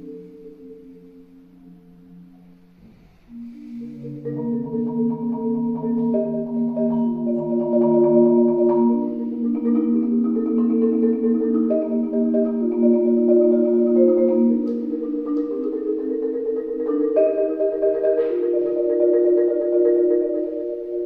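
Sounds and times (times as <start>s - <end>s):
marimba chords: 0.0s - 21.0s.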